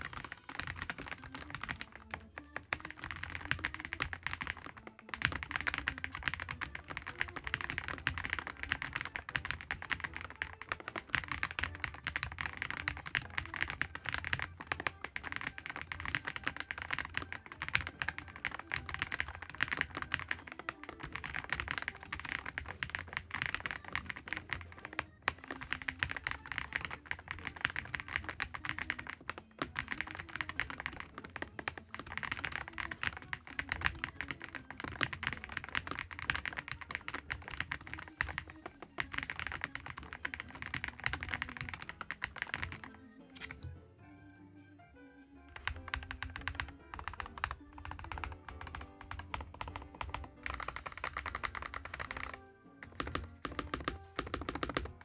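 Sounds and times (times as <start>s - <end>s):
mechanical keyboard typing: 0.0s - 43.8s, 45.5s - 55.0s.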